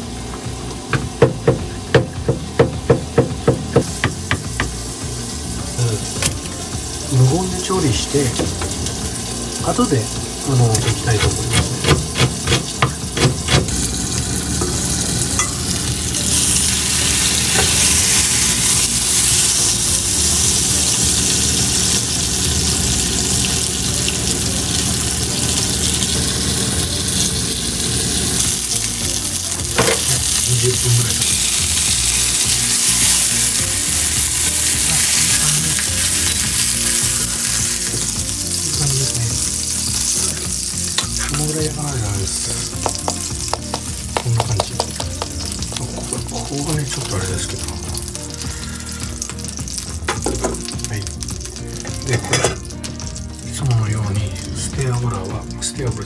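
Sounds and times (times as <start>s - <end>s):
chicken sizzling in a frying pan: 2.0s - 56.0s.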